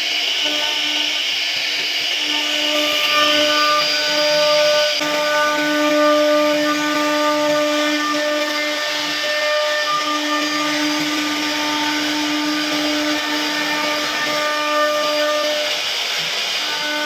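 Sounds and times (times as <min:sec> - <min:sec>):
hiss of wood cutting: 0:00.0 - 0:17.0
router spindle whining: 0:00.0 - 0:17.0.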